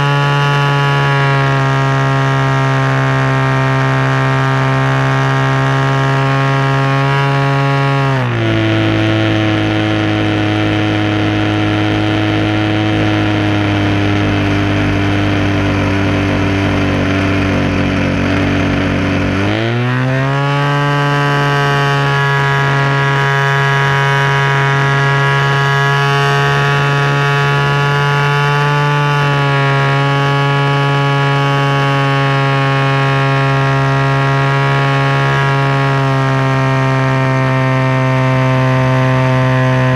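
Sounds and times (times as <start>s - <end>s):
model plane engine: 0.0s - 39.9s.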